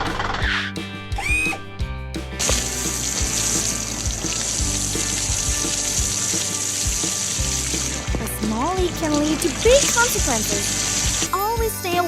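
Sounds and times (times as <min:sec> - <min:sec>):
background music with low beat: 0:00.0 - 0:12.0.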